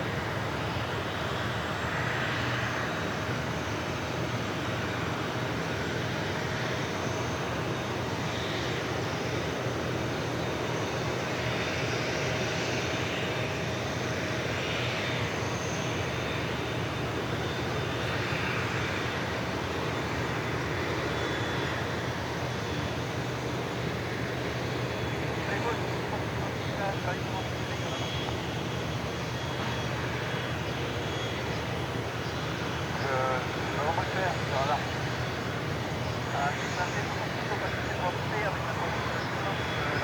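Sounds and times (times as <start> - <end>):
faint steady whine: 0.0 - 40.0
jet engines running: 0.0 - 40.0.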